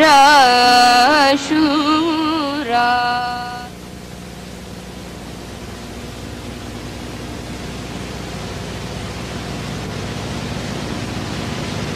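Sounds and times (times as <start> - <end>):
low hum: 0.0 - 11.9
videotape hiss: 0.0 - 11.9.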